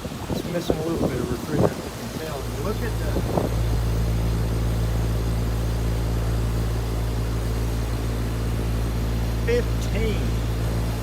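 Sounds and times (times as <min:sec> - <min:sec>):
compressor hum: 0:00.0 - 0:11.0
fan hiss: 0:00.0 - 0:11.0.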